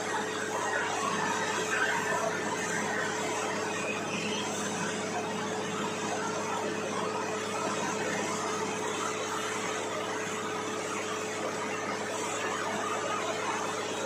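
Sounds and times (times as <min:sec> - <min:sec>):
drilling rig running: 0:00.0 - 0:14.0.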